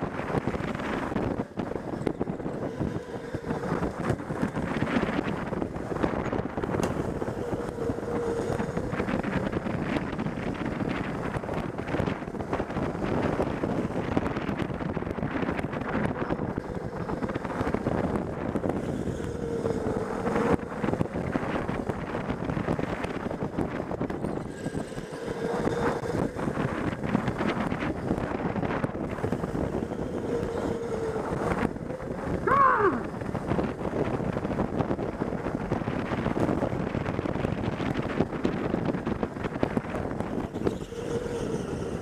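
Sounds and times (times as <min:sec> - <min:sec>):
faint electric motor whine: 0:00.0 - 0:42.0
kart rattle: 0:00.0 - 0:42.0
wind buffeting microphone: 0:00.0 - 0:42.0.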